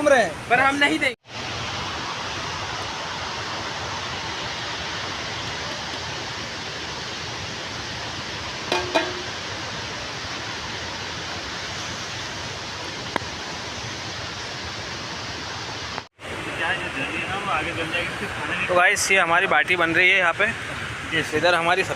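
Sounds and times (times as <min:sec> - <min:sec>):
heavy rain: 0:00.0 - 0:21.9
rushing water: 0:00.0 - 0:21.9.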